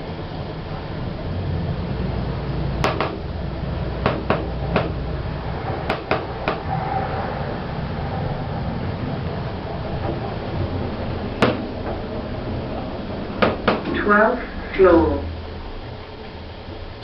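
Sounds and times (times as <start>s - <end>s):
lift car rumbling: 0.0s - 17.0s.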